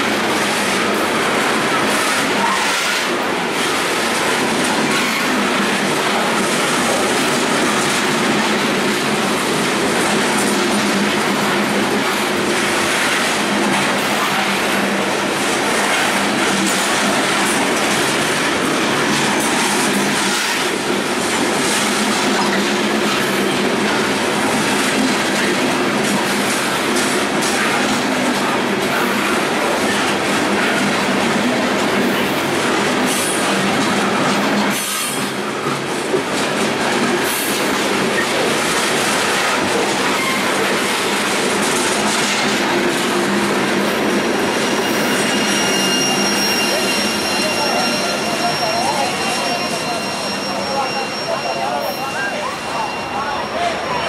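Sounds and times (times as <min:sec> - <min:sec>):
freight train rumble and clatter: 0:00.0 - 0:54.0.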